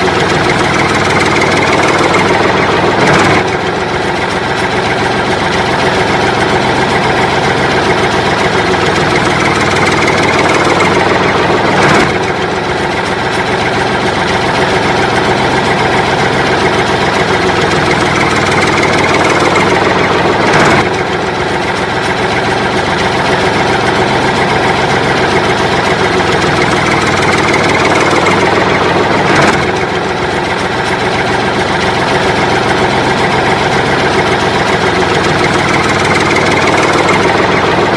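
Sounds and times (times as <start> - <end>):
loud steady engine: 0.0 - 37.9.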